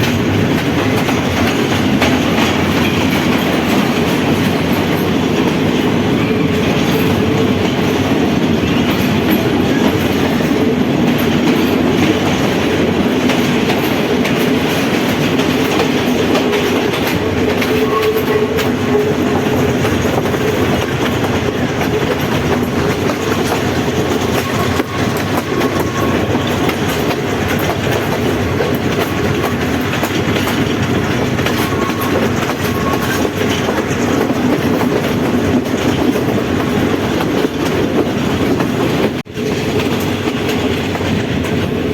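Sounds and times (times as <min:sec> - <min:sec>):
train carriage rumble: 0:00.0 - 0:41.9
wheels clicking over rail joints: 0:00.0 - 0:41.9.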